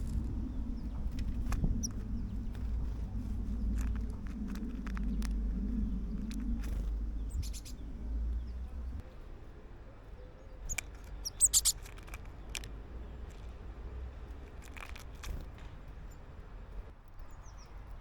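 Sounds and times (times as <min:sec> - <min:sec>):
small birds chirping: 0:00.0 - 0:09.3, 0:09.9 - 0:18.0
low background rumble: 0:00.0 - 0:17.6.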